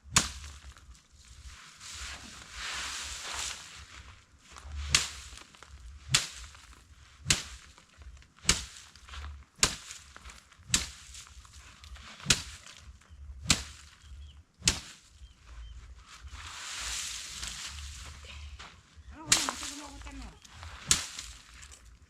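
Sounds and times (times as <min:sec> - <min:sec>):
faint rustling: 0:00.4 - 0:22.0.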